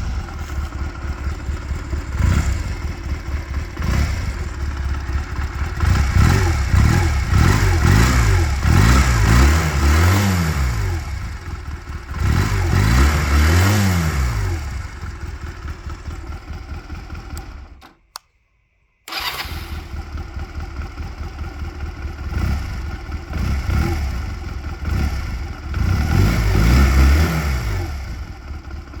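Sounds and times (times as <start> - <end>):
motorcycle engine revving: 0.0 - 17.8, 19.1 - 29.0.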